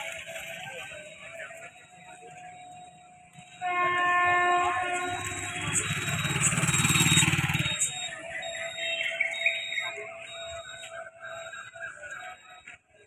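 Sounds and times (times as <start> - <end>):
horn blaring steady tone: 0.0 - 12.6.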